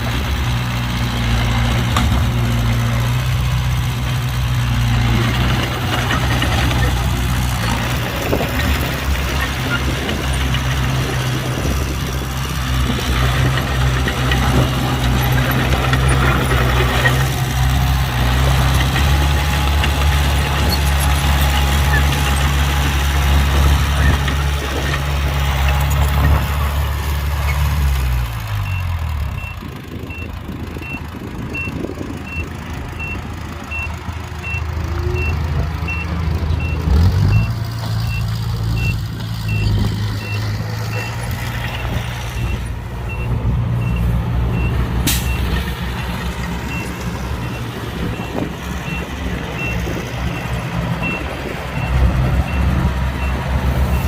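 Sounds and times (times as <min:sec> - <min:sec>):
diesel engine running hard: 0:00.0 - 0:54.0.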